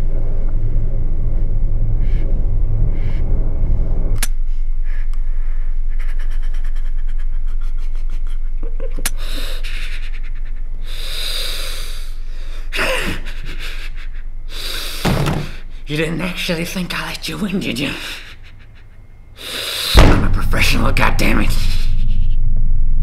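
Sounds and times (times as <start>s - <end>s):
low steady drone: 0.0s - 23.0s.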